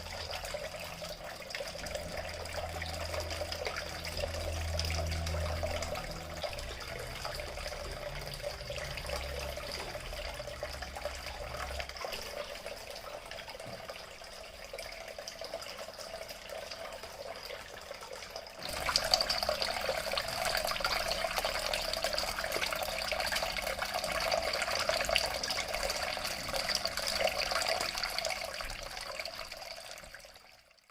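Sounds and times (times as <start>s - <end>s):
fountain water trickling and splashing: 0.0s - 30.9s.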